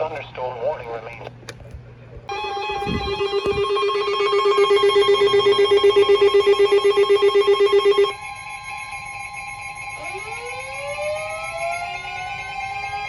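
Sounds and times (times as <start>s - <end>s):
pulsing buzzing alarm tone: 2.3s - 13.0s
steady high electronic tones: 2.3s - 13.0s.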